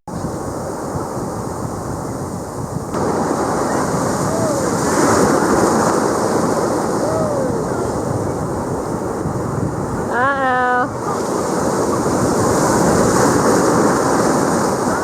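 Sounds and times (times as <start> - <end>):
ocean surf breaking: 0.1 - 15.0
wind buffeting microphone: 0.1 - 15.0.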